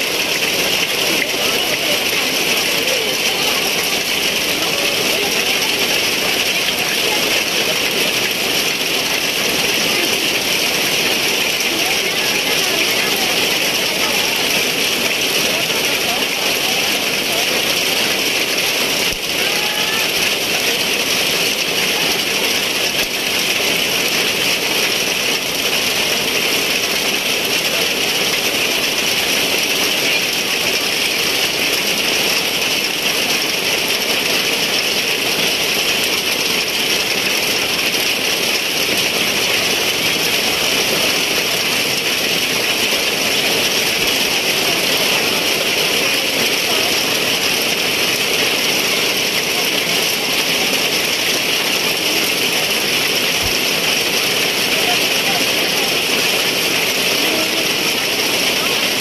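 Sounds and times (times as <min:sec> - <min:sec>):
heavy rain falling: 0:00.0 - 0:59.0
water running off roof edge: 0:00.0 - 0:59.0.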